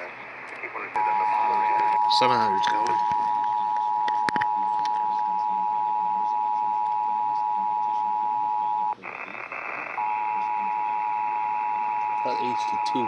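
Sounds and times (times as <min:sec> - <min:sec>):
radio hiss: 0:00.0 - 0:13.0
dual-tone alarm: 0:01.0 - 0:09.0, 0:10.0 - 0:13.0.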